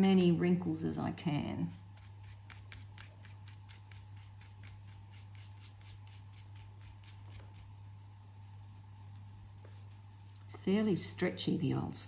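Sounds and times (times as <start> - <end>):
steady low hum: 0.0 - 12.0
paintbrush scratchy strokes: 1.7 - 12.0.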